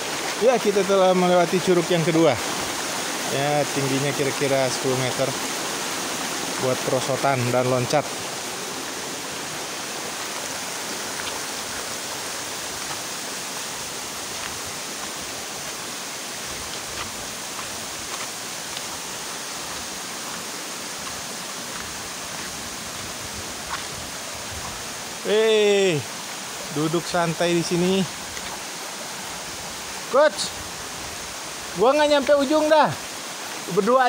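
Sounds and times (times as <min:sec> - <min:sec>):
mountain stream rushing: 0:00.0 - 0:34.0.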